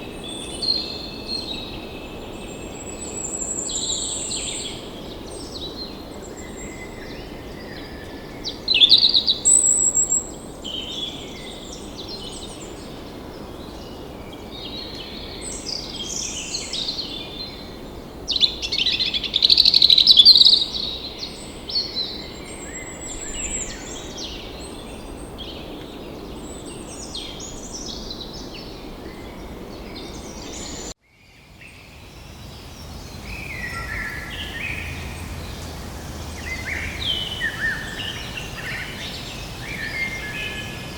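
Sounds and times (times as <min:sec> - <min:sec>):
flock of small birds chirping: 0:00.0 - 0:40.9.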